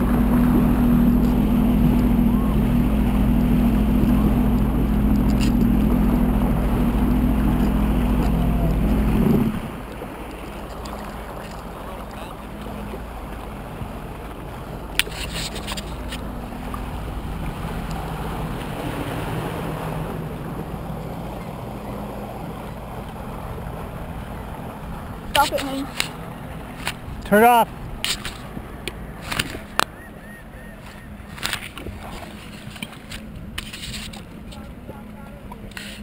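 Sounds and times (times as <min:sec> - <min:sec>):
jet ski engine running: 0:00.0 - 0:36.0.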